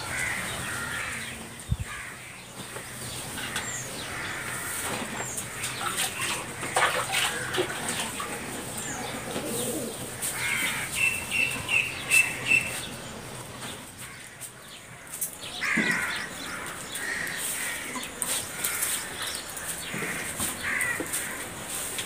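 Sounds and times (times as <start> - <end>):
birds chirping: 0.0 - 22.0
harsh bird calls: 0.0 - 22.0.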